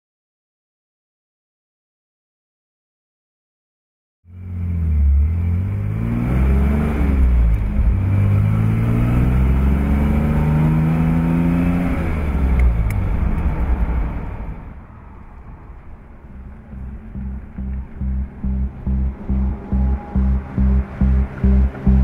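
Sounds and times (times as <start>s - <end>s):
car engine accelerating through gears: 4.3s - 22.0s.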